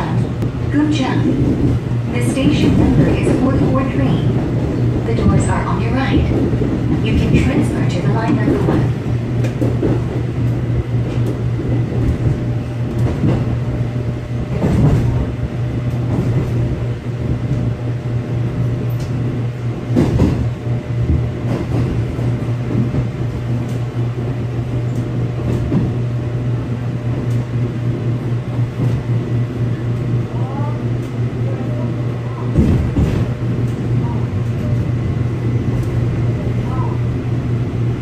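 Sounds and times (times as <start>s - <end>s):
train wheels clunking on track: 0.0s - 30.2s, 32.1s - 38.0s
electric train hum and rumble: 0.0s - 38.0s.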